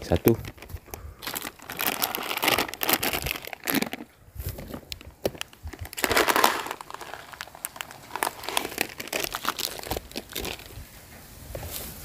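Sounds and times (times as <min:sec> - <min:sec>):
crinkling and crackling clicks: 0:00.0 - 0:11.8.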